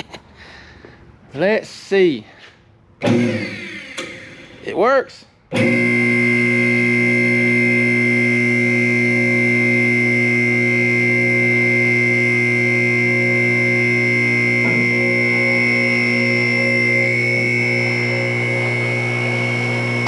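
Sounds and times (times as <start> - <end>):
hydraulic pump motor humming: 3.0 - 4.7, 5.5 - 20.0.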